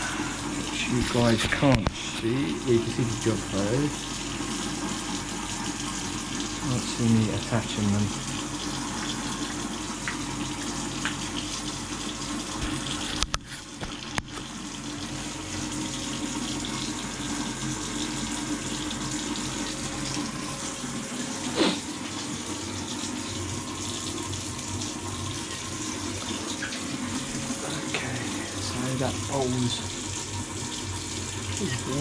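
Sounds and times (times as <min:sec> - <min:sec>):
tap water running into basin: 0:00.0 - 0:32.0.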